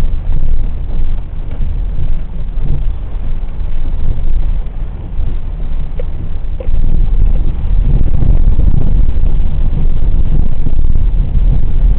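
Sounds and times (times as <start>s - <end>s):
engine and tyres rumbling: 0.0s - 11.9s
wind buffeting microphone: 0.0s - 11.9s.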